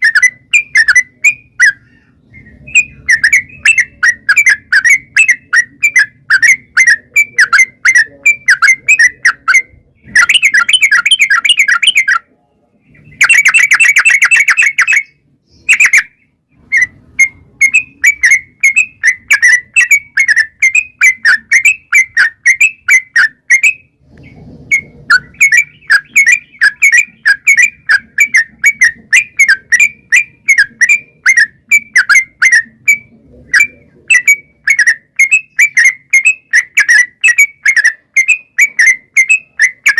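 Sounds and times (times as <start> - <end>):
bird whistled notes: 0.0 - 12.2, 13.0 - 24.0, 24.7 - 39.9
bird rapid chattering: 0.0 - 39.9.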